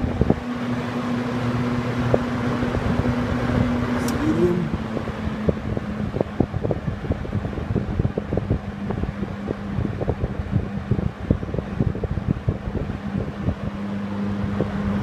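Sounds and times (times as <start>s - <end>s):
box fan running: 0.0s - 15.0s
wind buffeting microphone: 2.0s - 15.0s.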